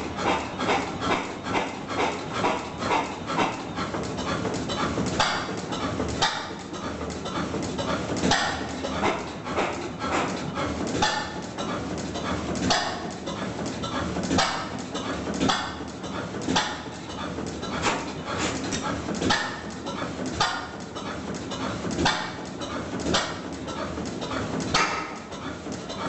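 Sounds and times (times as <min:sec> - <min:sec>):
stationary engine running slowly: 0:00.0 - 0:26.0.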